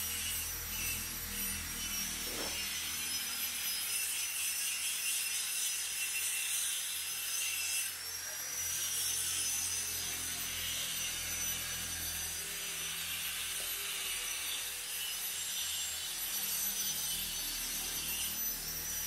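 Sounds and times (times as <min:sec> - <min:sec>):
angle grinder grinding steel: 0:00.0 - 0:19.0.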